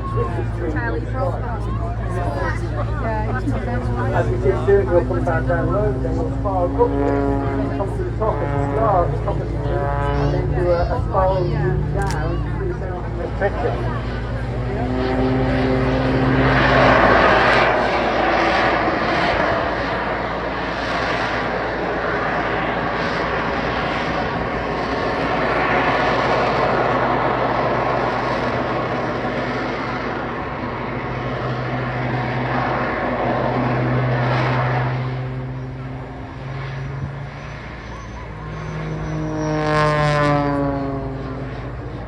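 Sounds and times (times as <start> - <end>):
airplane engine humming: 0.0 - 42.0.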